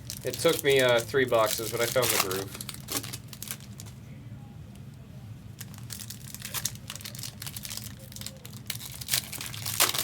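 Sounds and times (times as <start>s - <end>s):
card wrappers crinkling: 0.0s - 4.0s, 5.6s - 10.0s.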